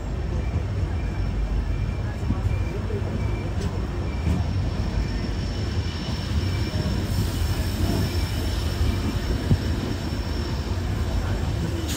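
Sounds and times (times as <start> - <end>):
train rumble: 0.0 - 11.9.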